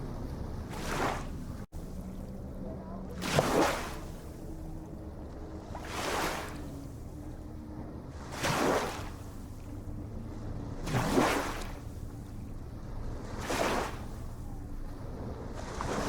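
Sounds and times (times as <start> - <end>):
small waves breaking and splashing: 0.0 - 16.0.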